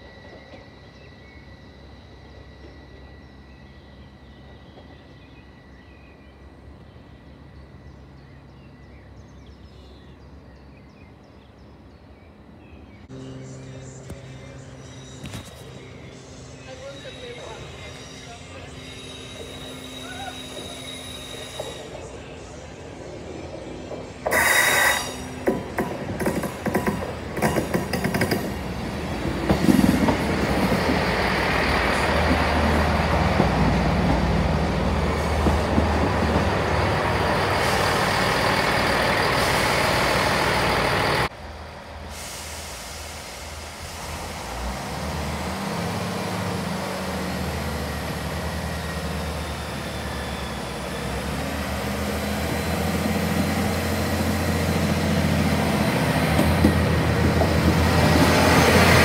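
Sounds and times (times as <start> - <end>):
diesel railcar engine: 0.0 - 59.0
passenger train rumbling past: 0.0 - 59.0.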